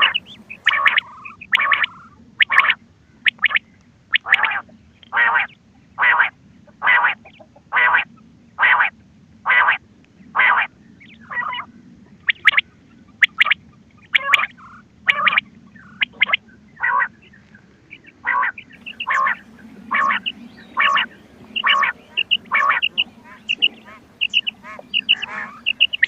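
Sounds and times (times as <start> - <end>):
quail calling: 0.0 - 8.9, 10.4 - 11.7, 12.3 - 17.2, 18.2 - 26.0.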